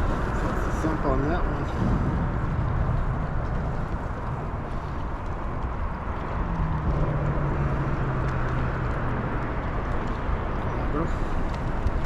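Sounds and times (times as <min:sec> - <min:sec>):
low hum: 0:00.0 - 0:10.5
wind rumble: 0:00.0 - 0:12.0.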